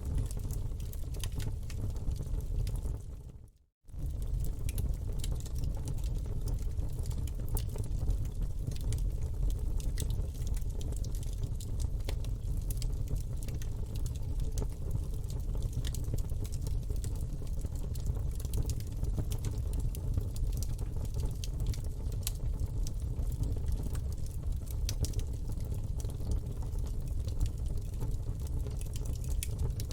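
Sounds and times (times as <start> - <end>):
campfire crackling and popping: 0.0 - 3.1, 4.0 - 29.9.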